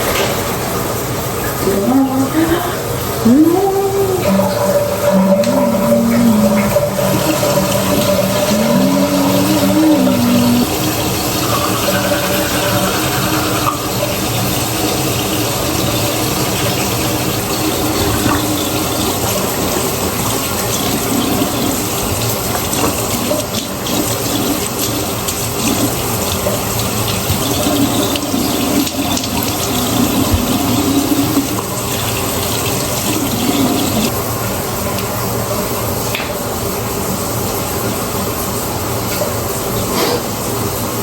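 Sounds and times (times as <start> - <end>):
water running: 0.0 - 41.0.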